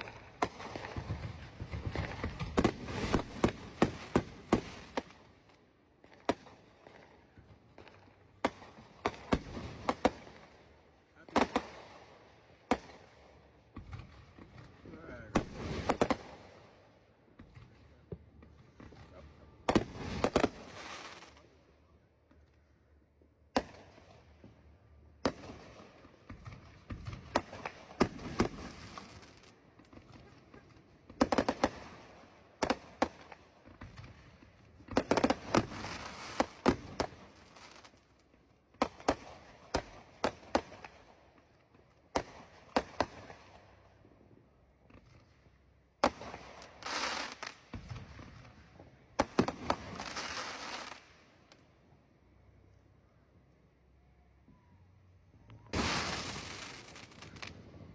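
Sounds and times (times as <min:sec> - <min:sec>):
fireworks bangs: 0:00.0 - 0:21.5, 0:23.5 - 0:43.8, 0:46.0 - 0:51.6, 0:55.6 - 0:57.9
fireworks crackling: 0:00.0 - 0:21.6, 0:23.5 - 0:43.9, 0:44.7 - 0:51.7, 0:55.6 - 0:57.9.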